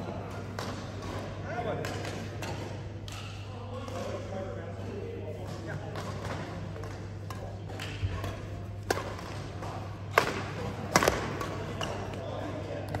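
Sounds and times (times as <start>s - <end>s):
rackets hitting shuttlecock: 0.2s - 4.2s, 5.5s - 13.0s.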